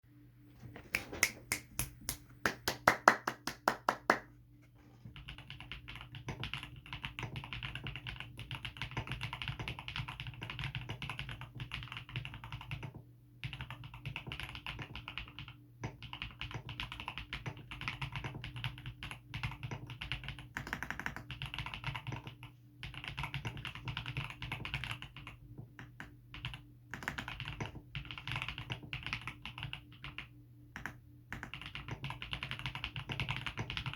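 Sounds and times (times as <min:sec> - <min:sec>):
mechanical keyboard typing: 0:05.2 - 0:33.9.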